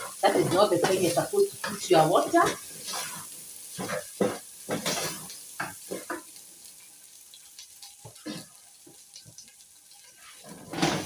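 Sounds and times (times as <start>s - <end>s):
rice sizzling in hot oil: 0.0s - 11.0s.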